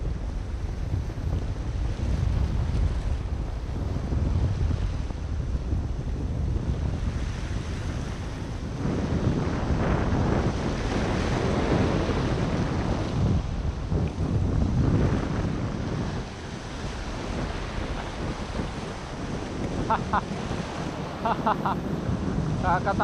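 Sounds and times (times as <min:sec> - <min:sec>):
ocean surf over rocks: 0:00.0 - 0:23.0
wind buffeting microphone: 0:00.0 - 0:23.0.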